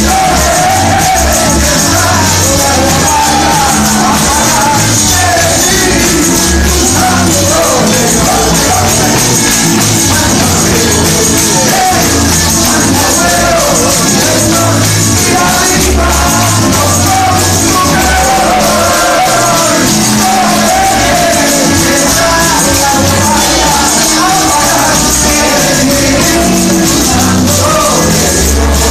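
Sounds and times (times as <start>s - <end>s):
band with bass line: 0.0s - 28.9s
congregation clapping: 0.0s - 28.9s
man singing into microphone: 0.0s - 28.9s.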